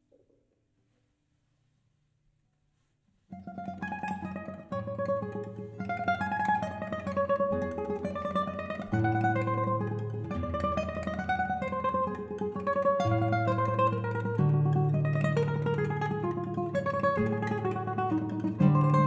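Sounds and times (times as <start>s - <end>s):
classical guitar playing: 3.3s - 19.0s.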